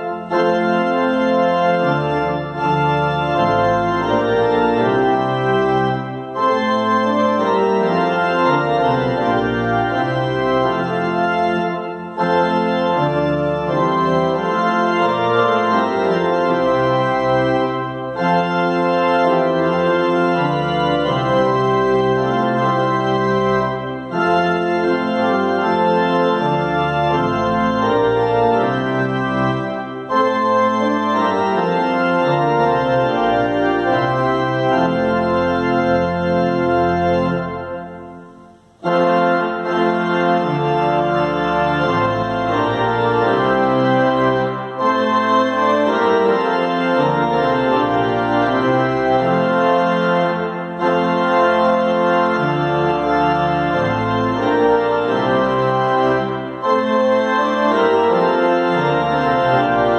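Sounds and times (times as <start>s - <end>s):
pipe organ playing a hymn: 0.0s - 59.9s.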